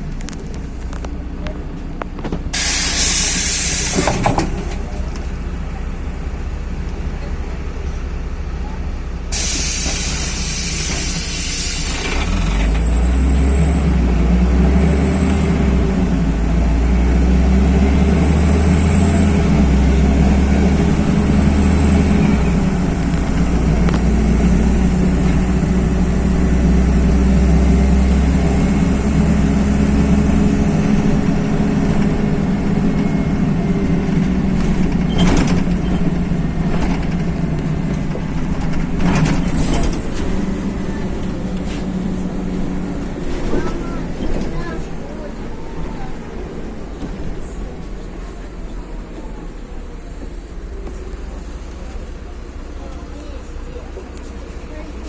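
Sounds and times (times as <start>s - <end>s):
bus diesel engine drone: 0.0s - 55.0s
road and tyre noise: 0.0s - 55.0s.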